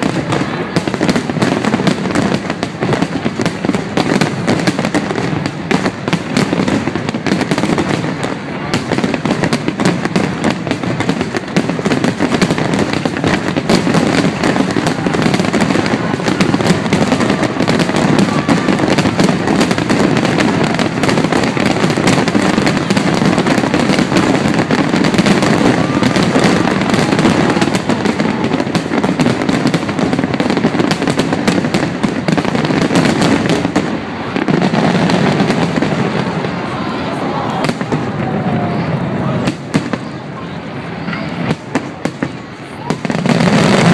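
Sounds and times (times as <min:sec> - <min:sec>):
fireworks bursting and crackling: 0:00.0 - 0:43.9.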